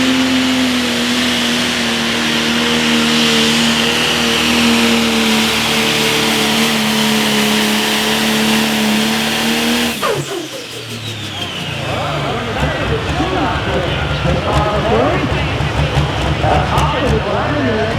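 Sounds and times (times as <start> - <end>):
diesel engine running flat out: 0.0 - 17.9.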